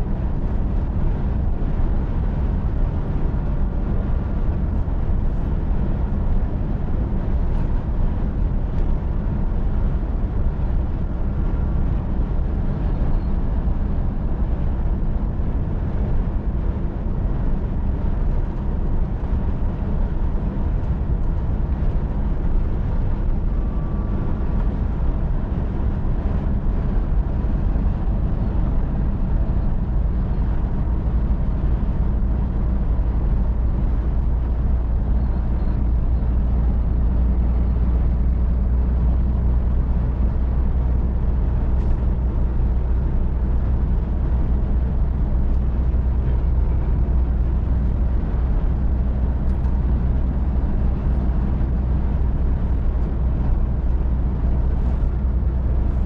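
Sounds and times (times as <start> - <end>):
road and wind noise: 0.0 - 56.0
truck diesel engine hum: 0.0 - 56.0.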